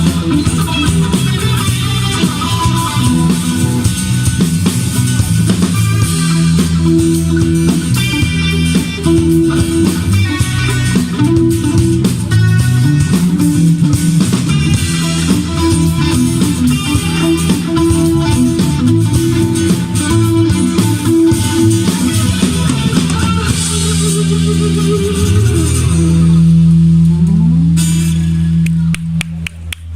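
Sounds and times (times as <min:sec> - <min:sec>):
band playing guitar-led instrumental: 0:00.0 - 0:29.4.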